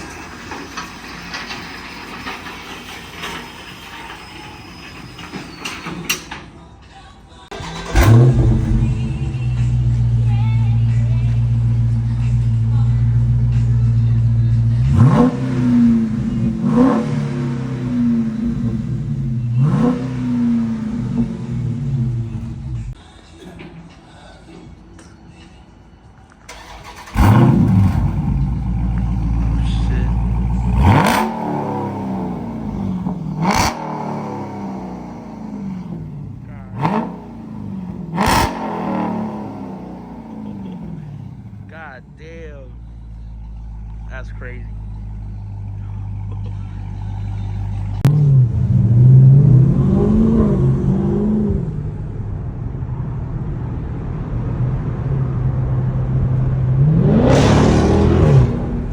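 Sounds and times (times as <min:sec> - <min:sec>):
car engine idling and revving: 0:00.0 - 0:04.2, 0:07.5 - 0:23.0, 0:26.2 - 0:58.9.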